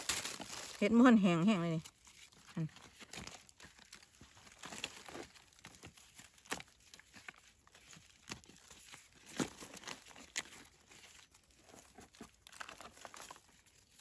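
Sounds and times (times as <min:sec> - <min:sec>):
dry rustling and crackling: 0:00.0 - 0:14.0.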